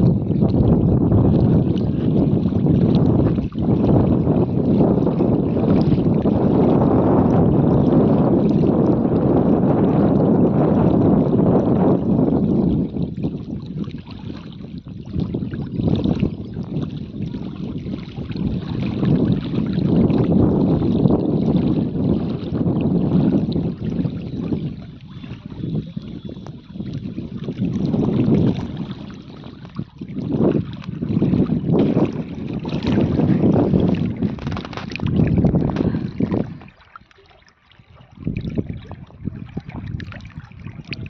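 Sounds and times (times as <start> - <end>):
wind buffeting microphone: 0.0 - 37.1, 37.7 - 41.0
lake water: 0.0 - 41.0.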